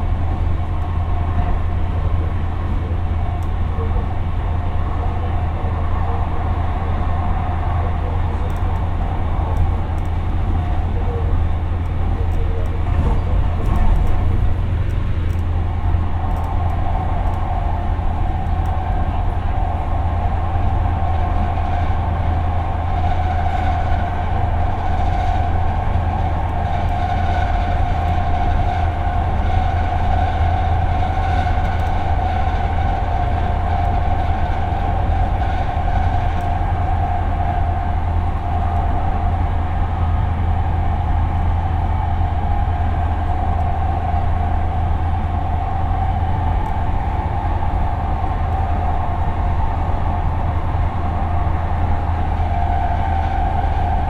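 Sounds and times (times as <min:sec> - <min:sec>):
constant whine: 0:00.0 - 0:54.0
light-rail car rumbling: 0:00.0 - 0:54.0.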